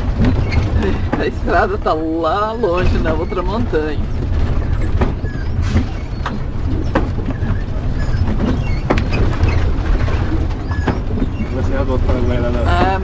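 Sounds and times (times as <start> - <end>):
cab knocks and rattles: 0.0 - 2.0, 2.6 - 13.0
engine and road rumble: 0.0 - 13.0.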